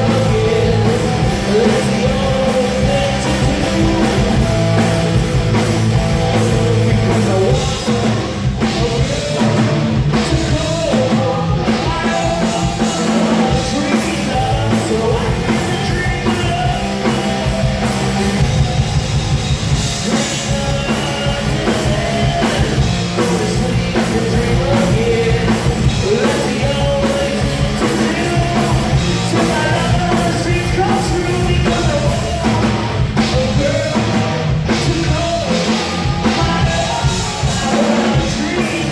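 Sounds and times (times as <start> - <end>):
person singing: 0.0 - 19.1, 19.7 - 38.9
drums: 0.0 - 38.9
loud punk rock band: 0.0 - 38.9.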